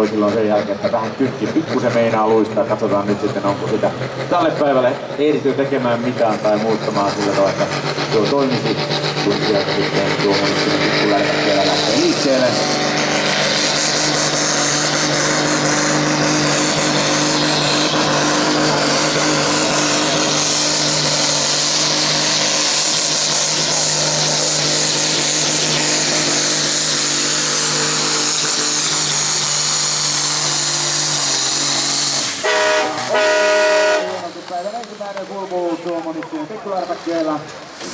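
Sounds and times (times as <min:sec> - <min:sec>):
tractor diesel engine running hard: 0:00.0 - 0:37.9.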